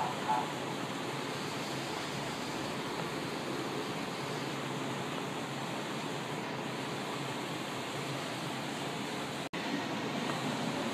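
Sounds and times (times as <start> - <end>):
train equipment rushing hiss: 0.0 - 10.9.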